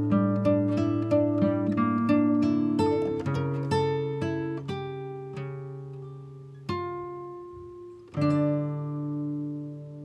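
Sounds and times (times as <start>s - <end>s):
acoustic guitar plucked and strummed: 0.0s - 10.0s.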